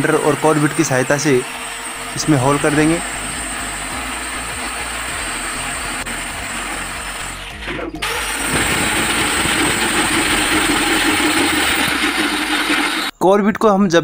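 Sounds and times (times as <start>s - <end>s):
angle grinder cutting stone: 0.0s - 13.1s.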